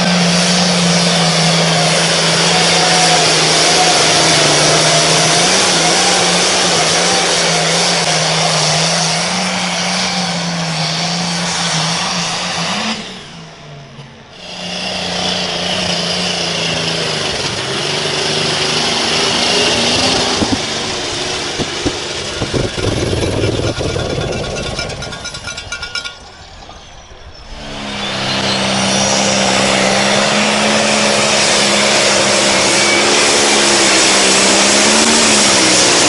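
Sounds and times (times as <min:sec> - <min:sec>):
engine running at high revs: 0:00.0 - 0:26.2, 0:27.4 - 0:36.0.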